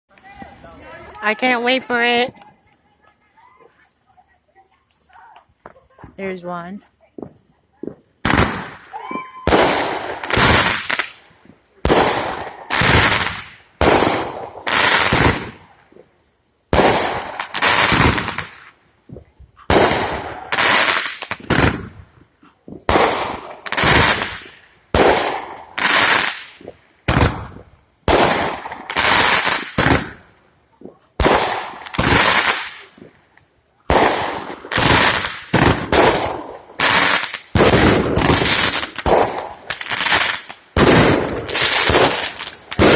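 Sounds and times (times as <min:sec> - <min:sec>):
fireworks bangs: 0:07.2 - 0:16.1, 0:16.7 - 0:42.9.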